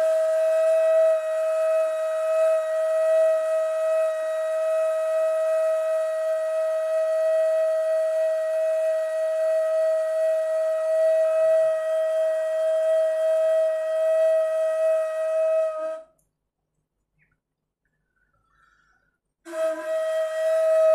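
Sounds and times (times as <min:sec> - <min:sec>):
cane flute long note: 0:00.0 - 0:16.2, 0:19.5 - 0:20.9.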